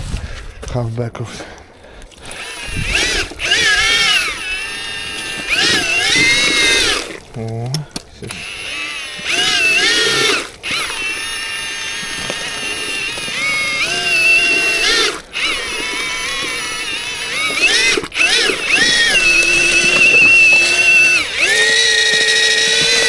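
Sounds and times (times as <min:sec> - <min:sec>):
electric paddle mixer churning concrete: 0:01.3 - 0:23.0.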